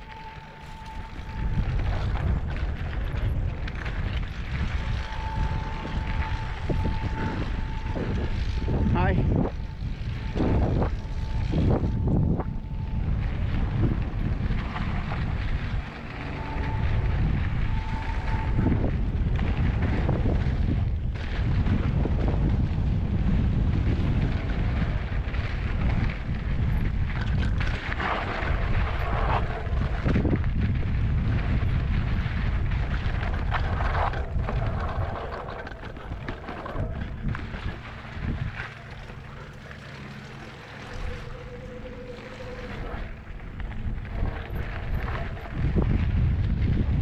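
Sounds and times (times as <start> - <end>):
bike rattling over dirt trail: 0.0 - 47.0
steady motor whine: 0.0 - 47.0
wind buffeting microphone: 0.0 - 47.0.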